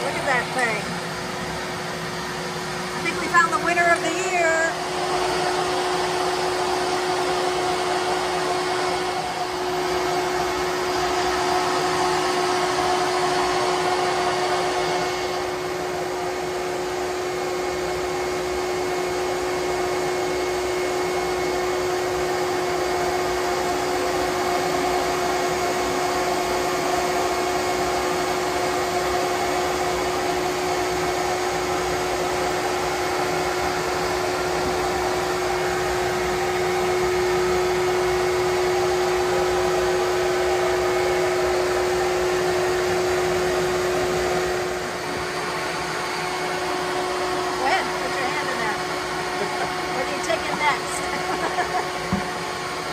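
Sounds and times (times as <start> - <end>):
vacuum motor humming: 0.0 - 52.9.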